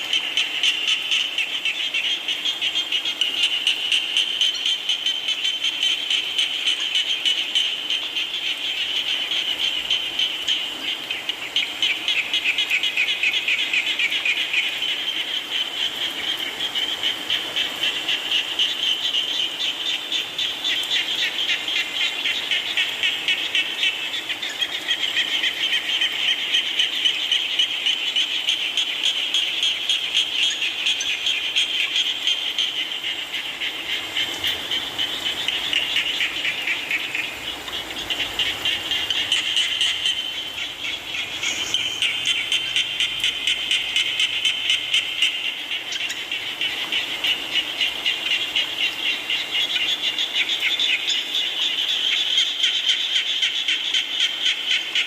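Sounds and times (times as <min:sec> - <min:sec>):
chorus of frogs calling: 0:00.0 - 0:55.0.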